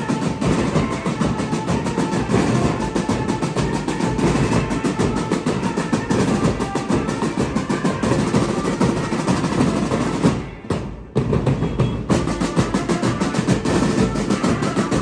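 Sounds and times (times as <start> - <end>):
marching snare drums: 0.0 - 15.0.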